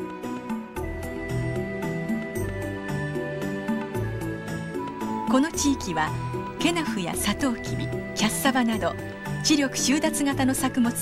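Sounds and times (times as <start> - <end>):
chord music over light beat: 0.0 - 11.0.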